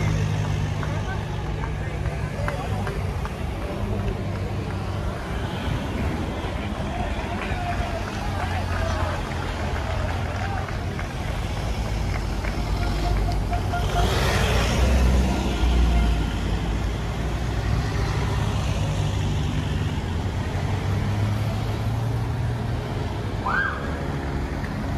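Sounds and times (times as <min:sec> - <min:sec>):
vehicles passing on road: 0:00.0 - 0:24.9.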